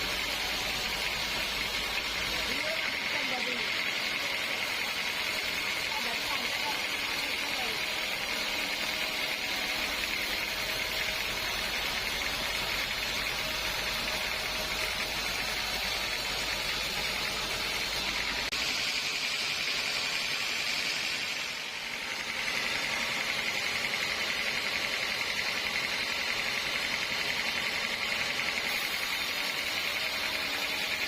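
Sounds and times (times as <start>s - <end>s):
saw cutting through log: 0.0s - 31.0s.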